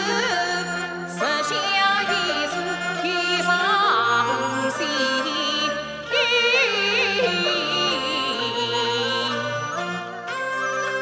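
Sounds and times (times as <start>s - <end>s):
opera singing voice: 0.0s - 9.6s
traditional instrumental accompaniment: 0.0s - 11.0s.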